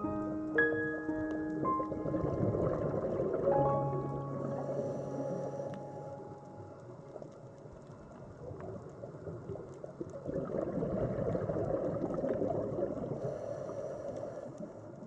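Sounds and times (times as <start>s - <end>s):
faint crackling clicks: 1.2s - 15.0s
underwater bubbling and gurgling: 1.2s - 15.0s.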